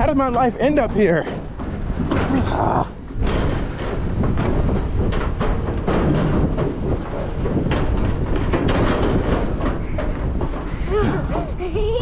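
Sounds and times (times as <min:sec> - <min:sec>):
footsteps on metal steps: 0:00.0 - 0:12.0
wind rumble on microphone: 0:00.0 - 0:12.0.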